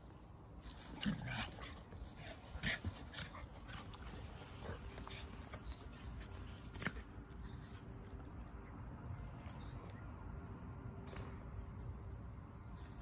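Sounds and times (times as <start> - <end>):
low outdoor rumble: 0.3 - 13.0.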